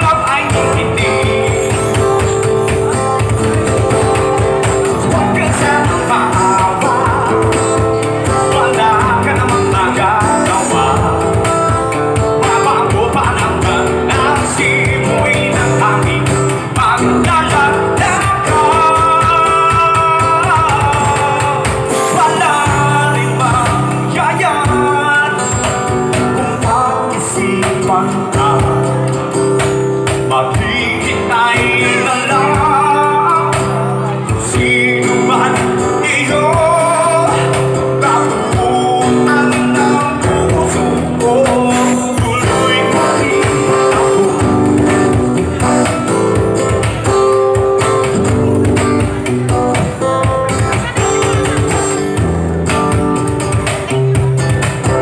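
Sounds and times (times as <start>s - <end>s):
acoustic guitar: 0.0s - 55.0s
box drum percussion: 0.0s - 55.0s.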